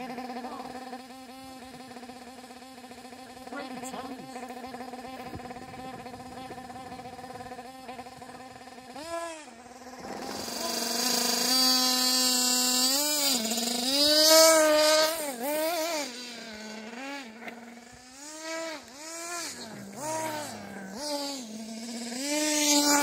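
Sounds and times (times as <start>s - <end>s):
buggy passing close by: 0.0s - 23.0s
model car engine revving: 0.0s - 23.0s.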